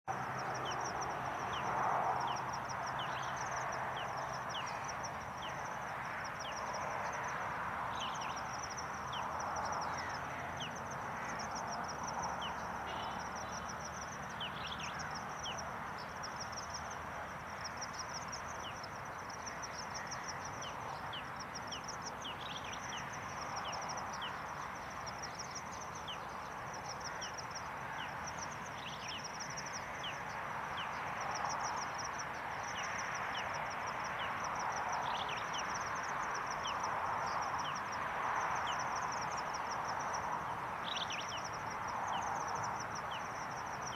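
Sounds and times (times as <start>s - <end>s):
high insect trill: 0.1s - 43.9s.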